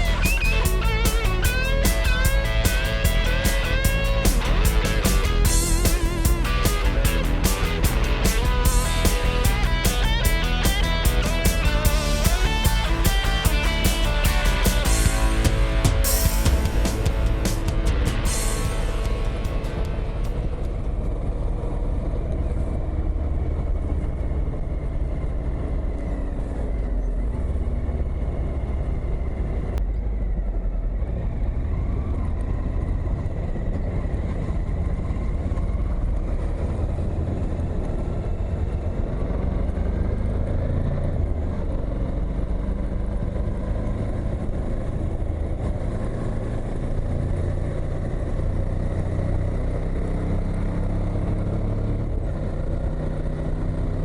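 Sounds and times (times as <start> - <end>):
motorcycle engine: 0.0 - 54.0
wind and road rush: 0.0 - 54.0.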